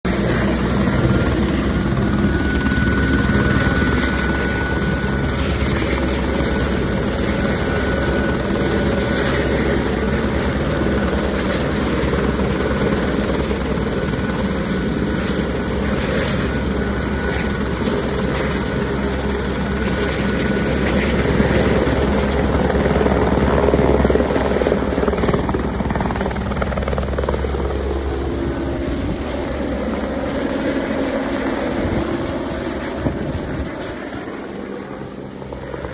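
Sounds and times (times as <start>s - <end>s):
helicopter rotor chopping: 0.1s - 35.9s.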